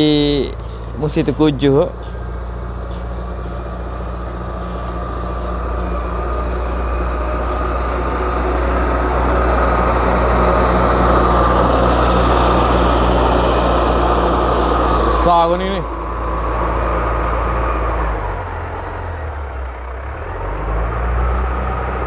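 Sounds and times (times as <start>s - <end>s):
earthmoving machine engine running: 0.0s - 22.0s.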